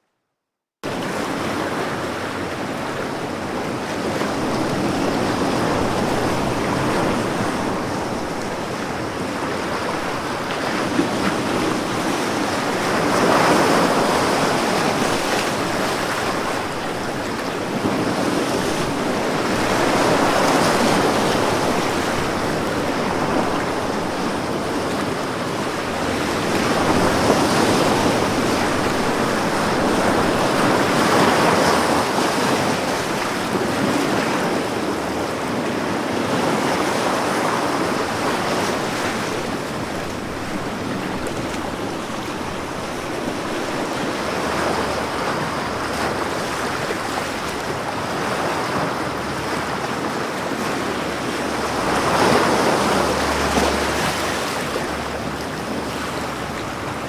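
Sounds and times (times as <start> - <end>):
ocean waves breaking on beach: 0.8 - 57.0.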